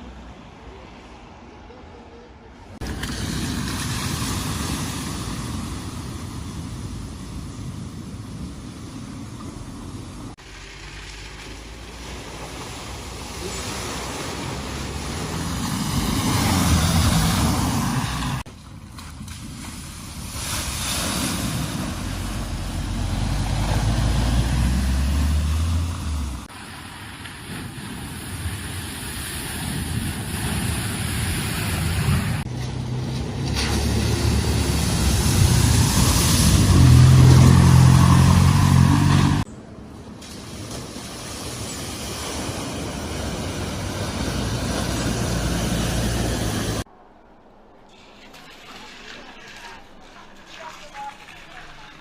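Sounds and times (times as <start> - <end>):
cars driving through flood water: 0.0 - 52.0.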